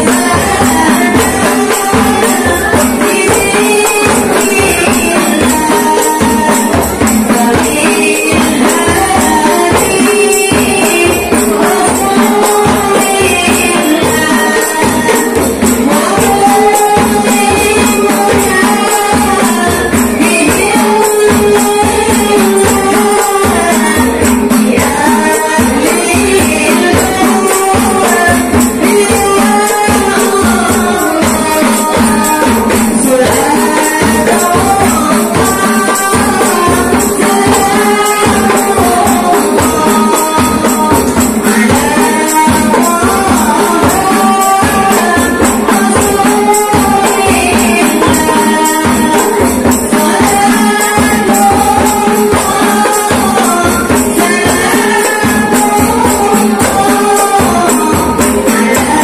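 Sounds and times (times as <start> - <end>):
frame drums in quick rhythm: 0.0 - 59.0
woman singing into a microphone: 0.0 - 59.0.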